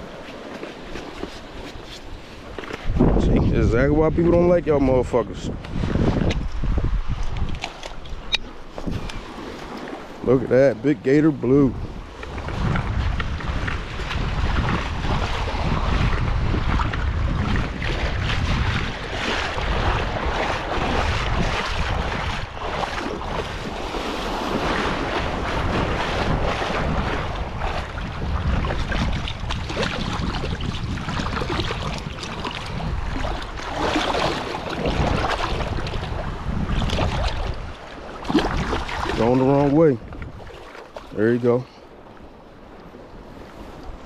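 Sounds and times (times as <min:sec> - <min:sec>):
small waves washing on beach: 0:00.0 - 0:44.0
wind on microphone: 0:00.0 - 0:44.0.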